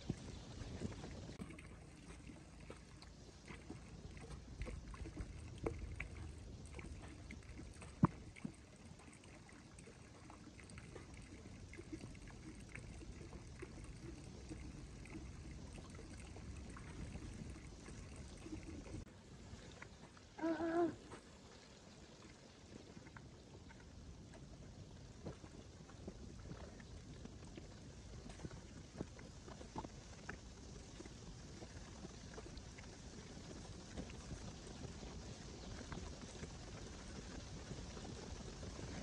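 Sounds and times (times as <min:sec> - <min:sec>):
water sloshing and trickling: 0:00.0 - 0:39.0.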